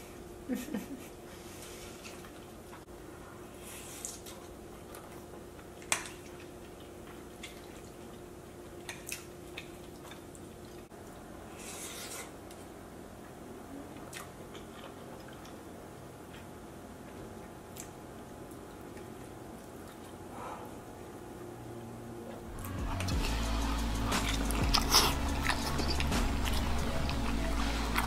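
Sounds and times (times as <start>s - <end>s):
soft chewing: 1.4s - 2.8s, 3.6s - 21.2s, 22.4s - 28.0s.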